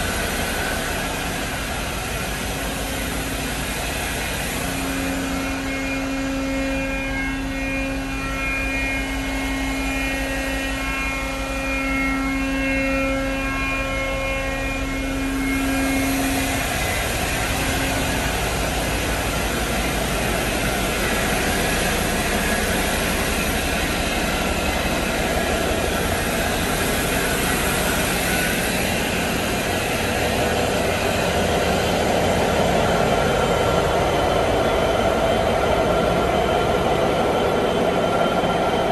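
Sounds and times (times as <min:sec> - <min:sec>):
engine-room machinery drone: 0:00.0 - 0:38.9.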